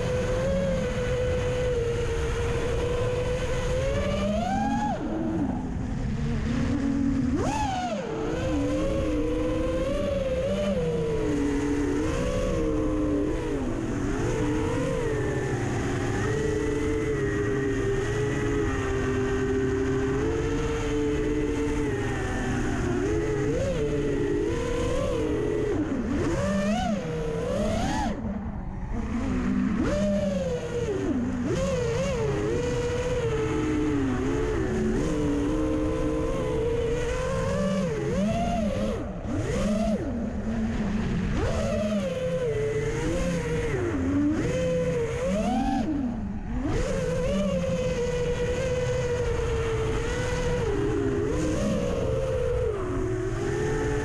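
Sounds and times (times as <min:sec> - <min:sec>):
drone motors and propellers whining: 0:00.0 - 0:54.0.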